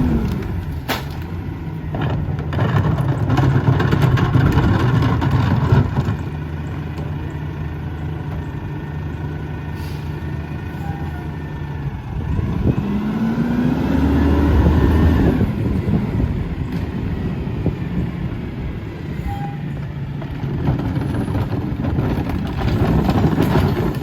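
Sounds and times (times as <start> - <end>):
diesel truck engine revving: 0.0 - 24.0.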